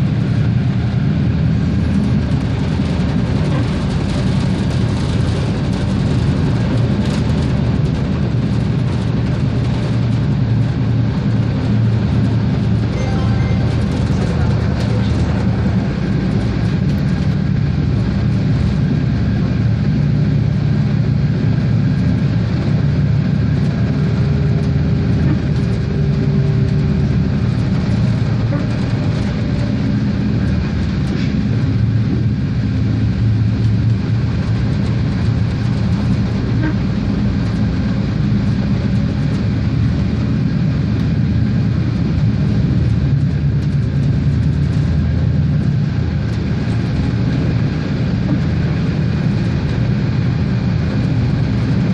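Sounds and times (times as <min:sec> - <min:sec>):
railcar diesel engine drone: 0:00.0 - 0:51.9
train wheels rolling on track: 0:00.0 - 0:51.9.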